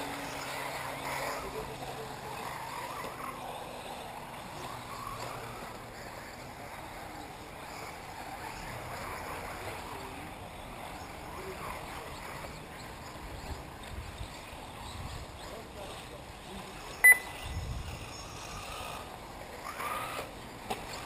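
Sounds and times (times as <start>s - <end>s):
faint voices: 0.0s - 21.0s
rc cars whirring: 0.0s - 21.0s.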